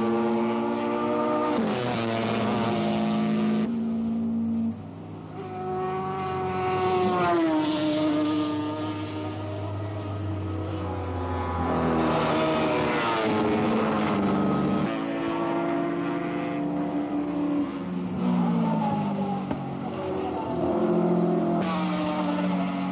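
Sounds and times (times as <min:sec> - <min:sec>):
racing motorcycles passing: 0:00.0 - 0:22.9.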